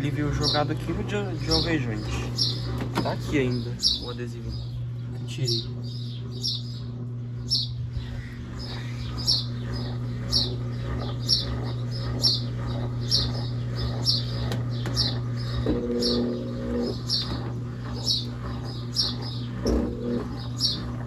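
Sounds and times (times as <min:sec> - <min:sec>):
washing machine humming on spin: 0:00.0 - 0:21.0.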